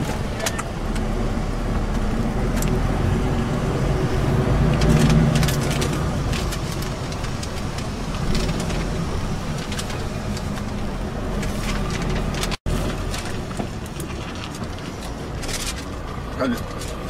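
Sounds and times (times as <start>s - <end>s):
lorry engine rumble: 0.0s - 17.0s
road noise: 0.0s - 17.0s.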